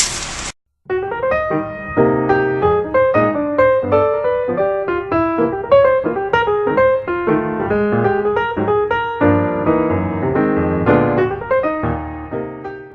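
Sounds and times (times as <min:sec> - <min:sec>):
piano music: 0:00.9 - 0:12.9.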